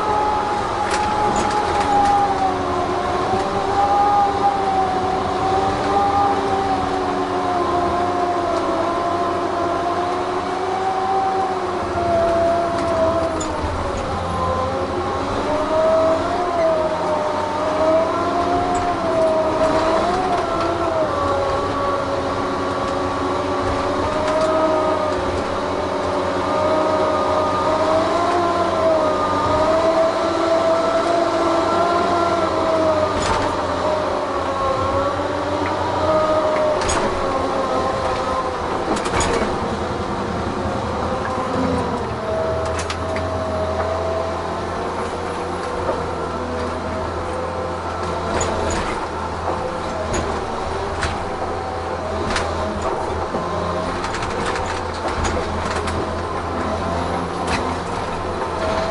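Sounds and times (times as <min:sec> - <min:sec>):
engine drone with whine: 0:00.0 - 0:58.9.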